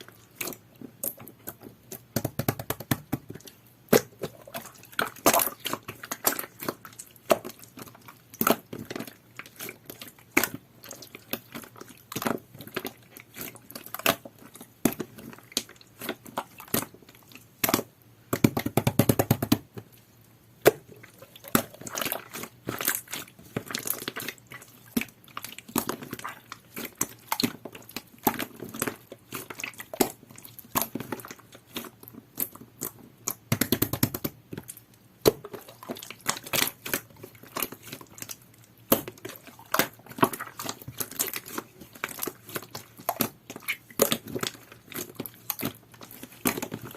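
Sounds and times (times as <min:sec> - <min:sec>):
slime squelching and popping: 0:00.0 - 0:20.0, 0:20.6 - 0:46.9.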